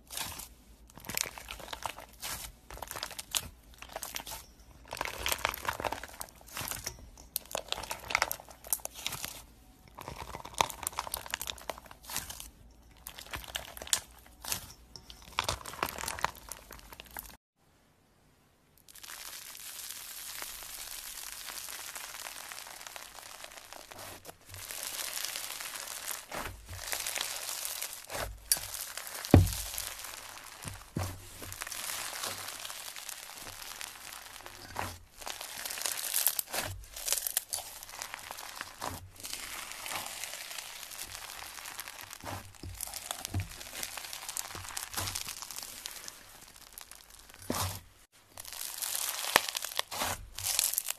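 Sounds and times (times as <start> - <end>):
foam-bead slime crackling: 0.0 - 17.4, 18.8 - 50.9
slime popping: 0.1 - 17.4, 18.9 - 47.8, 48.4 - 50.9.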